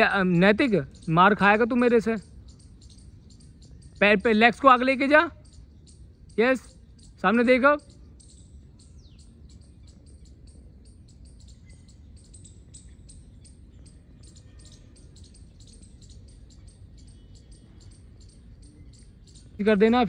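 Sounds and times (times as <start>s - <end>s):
birds chirping: 0.0s - 20.0s
low background noise: 0.0s - 20.0s.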